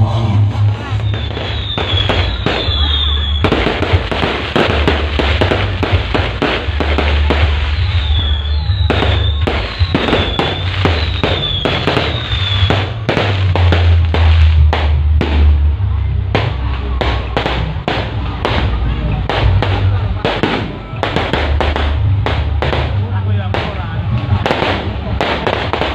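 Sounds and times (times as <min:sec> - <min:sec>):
heavy bass music: 0:00.0 - 0:25.9
firecrackers cracking: 0:00.6 - 0:25.9.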